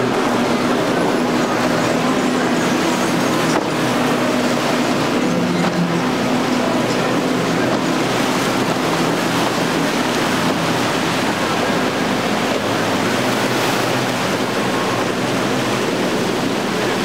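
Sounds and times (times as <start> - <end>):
outboard motors droning: 0.0 - 17.0
surf: 0.0 - 17.0
wind buffeting microphone: 0.0 - 17.0.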